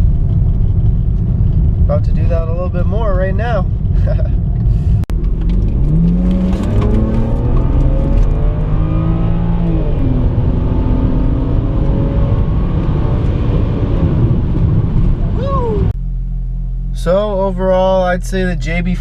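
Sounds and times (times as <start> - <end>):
car engine accelerating: 0.0 - 17.4
heavy exhaust rumble: 0.0 - 19.0.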